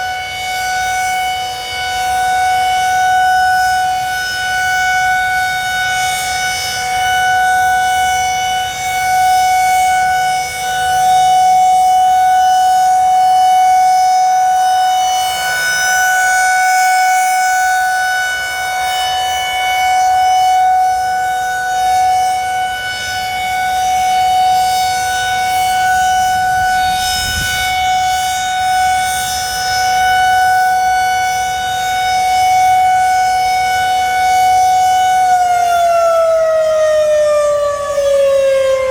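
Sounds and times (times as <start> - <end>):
electromechanical siren steady wail: 0.0 - 38.9.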